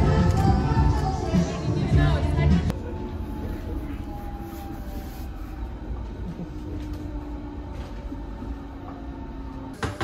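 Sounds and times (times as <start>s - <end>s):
train rumble inside carriage: 0.0s - 10.0s.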